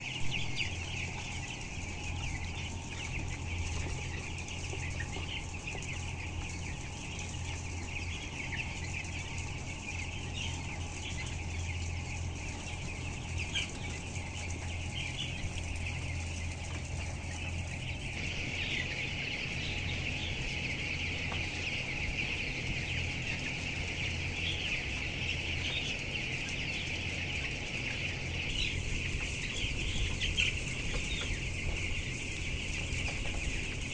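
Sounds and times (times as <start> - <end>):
chickens clucking and calling: 0.0 - 33.9
steady low hum: 0.0 - 33.9.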